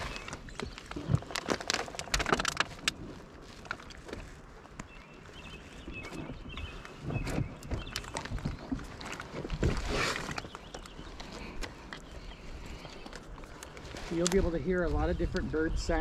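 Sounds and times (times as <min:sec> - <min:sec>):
small birds chirping: 0:00.0 - 0:02.4, 0:03.4 - 0:16.0.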